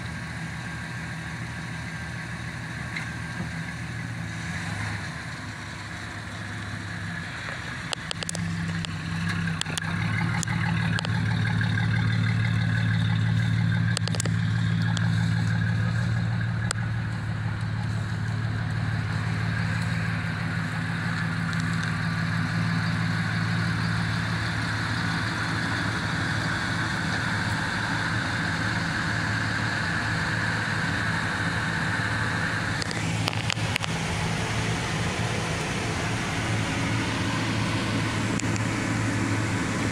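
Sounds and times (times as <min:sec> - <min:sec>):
pickup truck engine idling: 0:00.0 - 0:39.9.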